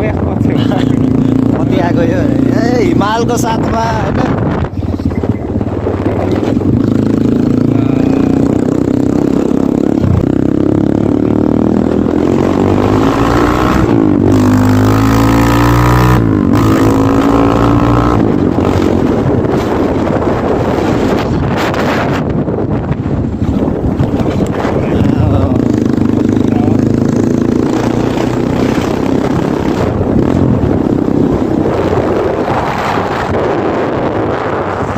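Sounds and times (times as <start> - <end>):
dirt bike engine accelerating: 0.0 - 34.9.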